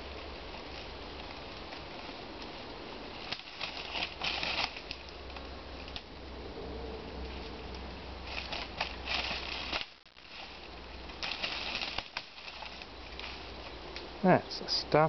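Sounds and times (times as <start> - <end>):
dry leaves crackling underfoot: 0.0 - 6.2, 7.0 - 15.0
steady low hum: 0.0 - 15.0.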